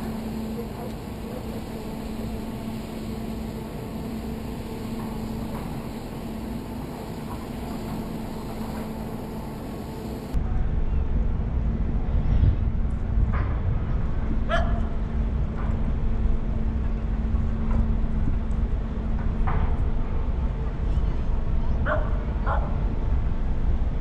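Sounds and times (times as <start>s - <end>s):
low rumble: 0.0s - 24.0s
ship engines droning: 0.0s - 24.0s.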